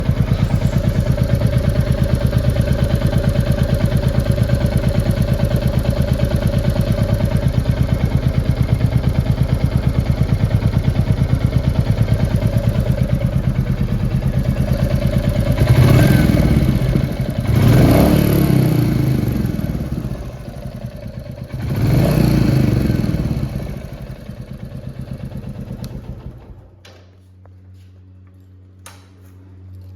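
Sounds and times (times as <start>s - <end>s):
engine ticking: 0.0s - 26.6s
motorcycle engine revving: 0.0s - 26.7s
motorcycle engine idling: 0.0s - 26.8s.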